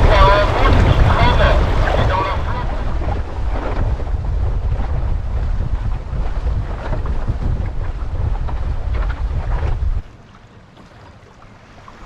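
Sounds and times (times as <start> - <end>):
wind buffeting microphone: 0.0 - 10.1
water splashing against boat hull: 0.0 - 12.0.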